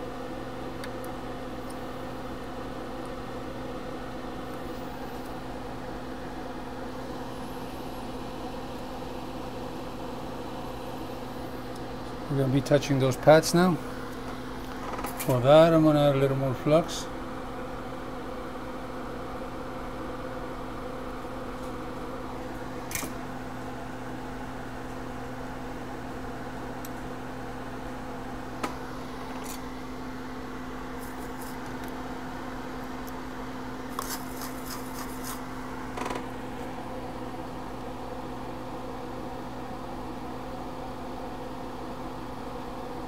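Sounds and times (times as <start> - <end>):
workbench equipment humming: 0.0 - 43.0.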